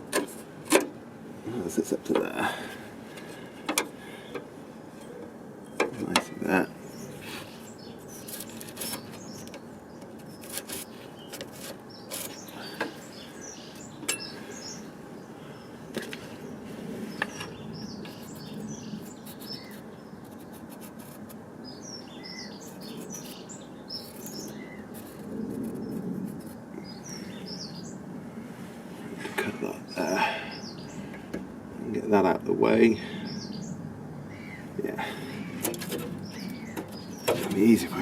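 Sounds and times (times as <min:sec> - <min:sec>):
small birds chirping: 0:01.5 - 0:28.2, 0:29.2 - 0:38.0.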